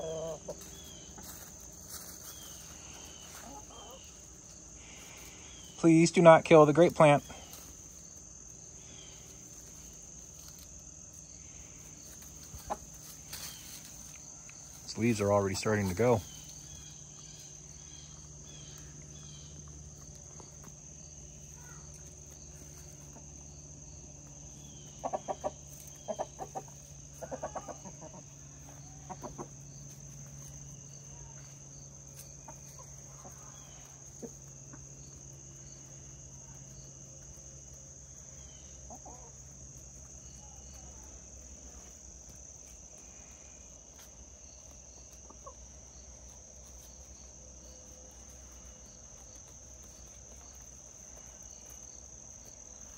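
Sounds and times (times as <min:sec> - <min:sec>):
chickens clucking: 0:00.0 - 0:52.9
crickets chirring: 0:00.0 - 0:52.9.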